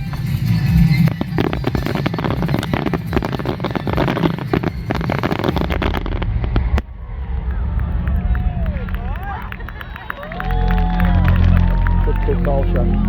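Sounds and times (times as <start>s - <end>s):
fireworks exploding: 0.0s - 12.4s.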